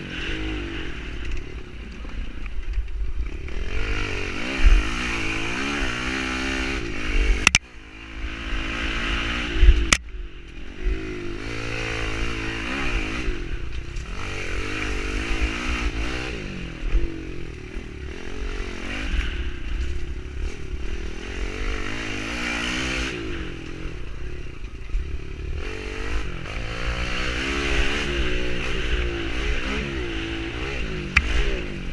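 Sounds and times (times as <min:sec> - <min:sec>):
pit bike engine revving: 0:00.0 - 0:01.7, 0:03.2 - 0:10.0, 0:10.6 - 0:31.9.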